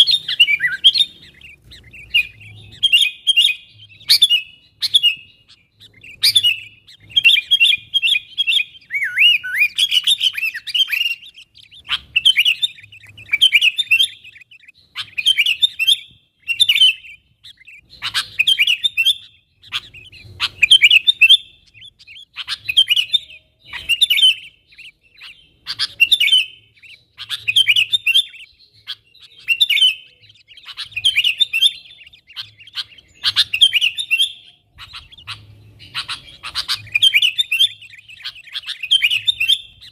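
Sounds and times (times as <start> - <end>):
bulbul chattering calls: 0.0 - 39.9.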